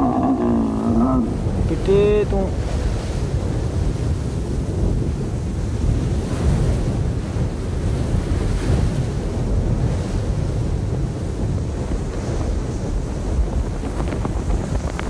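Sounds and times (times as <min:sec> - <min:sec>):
strong wind roaring: 0:00.0 - 0:15.0.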